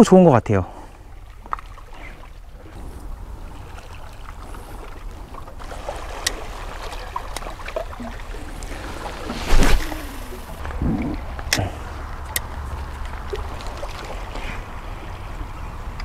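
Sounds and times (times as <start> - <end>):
wind rumbling on microphone: 1.0 - 16.0.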